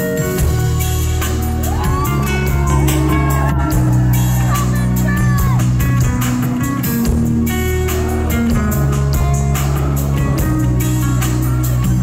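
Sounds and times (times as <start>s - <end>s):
drums steady beat: 0.0s - 12.0s
live band playing pop instrumental: 0.0s - 12.0s.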